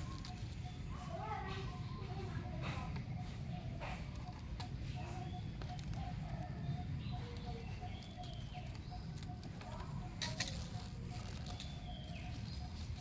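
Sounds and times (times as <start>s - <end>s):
faint high chirps: 0.0s - 13.0s.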